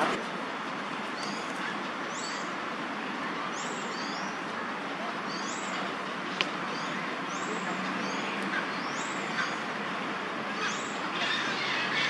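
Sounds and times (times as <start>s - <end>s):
city traffic hum: 0.0s - 12.0s.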